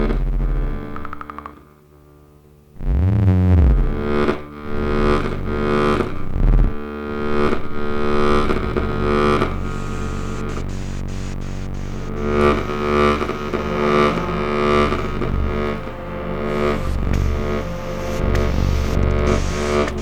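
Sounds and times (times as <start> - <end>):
distorted synthesized drones: 2.8 - 20.0.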